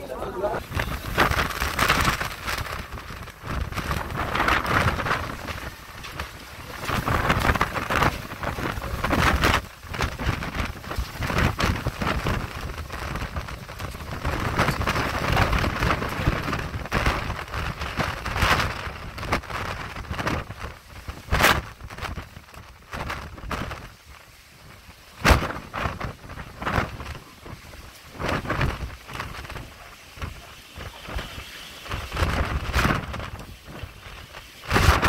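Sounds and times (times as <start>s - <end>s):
gusting wind: 0.0s - 35.0s
rain: 0.0s - 35.0s
wind rumbling on microphone: 0.0s - 35.0s.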